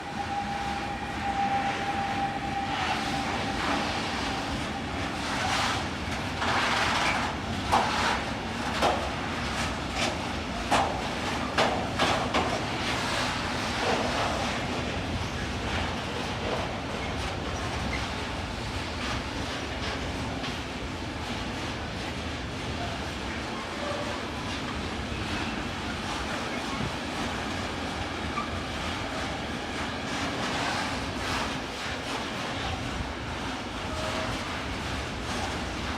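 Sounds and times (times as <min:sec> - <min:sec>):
freight train rumbling: 0:00.0 - 0:35.9.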